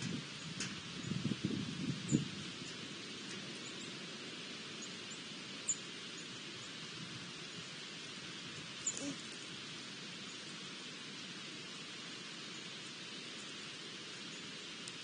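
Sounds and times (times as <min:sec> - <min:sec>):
outdoor air hiss: 0:00.0 - 0:15.0.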